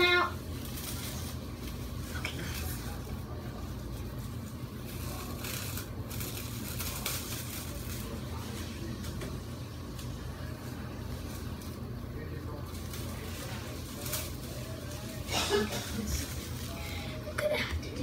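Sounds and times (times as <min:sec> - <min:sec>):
plastic cling wrap crinkling: 0:00.0 - 0:18.0
steady low hum: 0:00.0 - 0:18.0.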